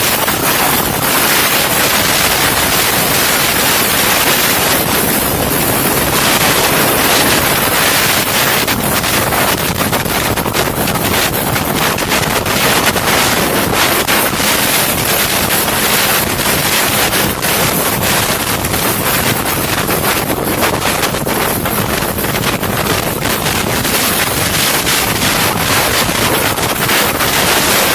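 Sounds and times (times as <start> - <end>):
helicopter rotor and engine: 0.0 - 27.9
wind buffeting microphone: 0.0 - 27.9.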